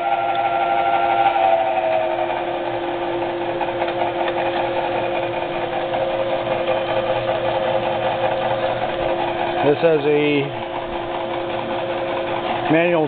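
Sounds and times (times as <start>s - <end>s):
drill press motor hum and whine: 0.0s - 13.0s.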